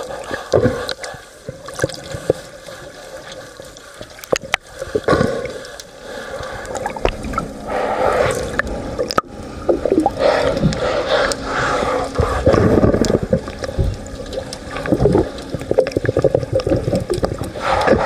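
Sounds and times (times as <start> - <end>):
muffled water movement: 0.0 - 18.0.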